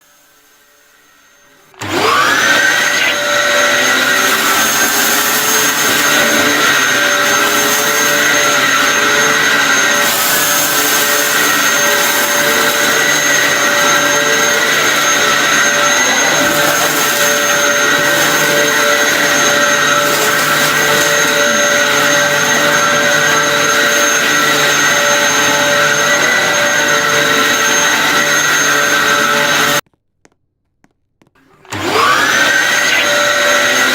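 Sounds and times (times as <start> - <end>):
vacuum cleaner motor running: 0.0 - 29.8, 31.4 - 33.9.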